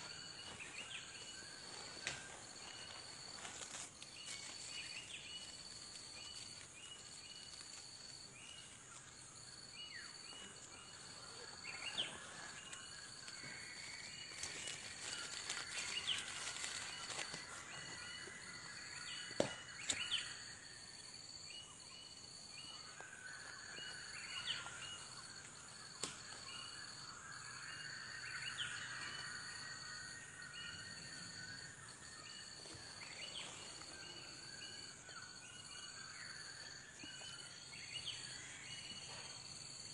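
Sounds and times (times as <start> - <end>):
birds chirping and warbling: 0.0 - 39.8.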